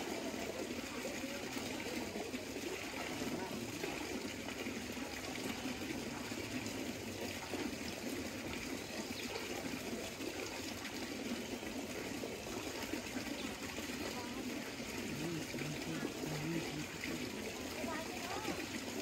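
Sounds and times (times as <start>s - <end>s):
running water stream: 0.0s - 19.0s.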